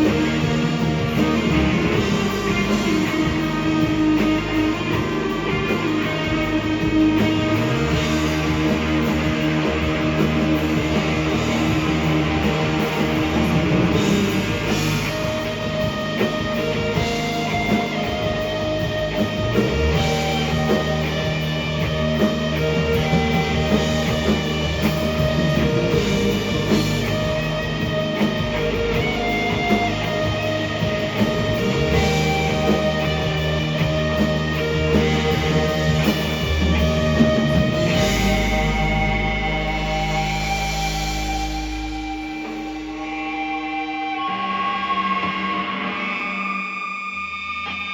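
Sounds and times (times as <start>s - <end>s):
bass notes: 0.0s - 44.3s
drums with cymbals: 0.0s - 45.8s
electric guitars: 0.0s - 47.9s.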